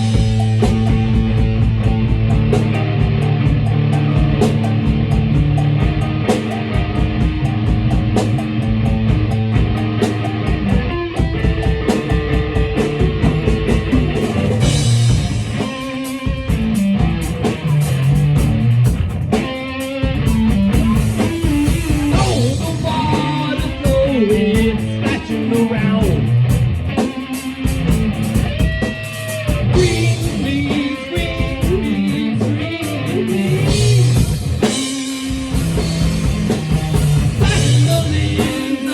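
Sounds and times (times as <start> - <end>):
rock music with guitar and drums: 0.0 - 38.9.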